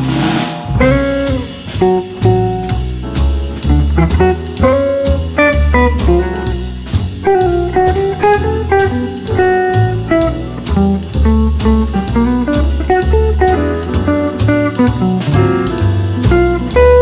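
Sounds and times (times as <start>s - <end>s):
pulsing bass beat: 0.0s - 17.0s
plucked guitar melody: 0.6s - 17.0s.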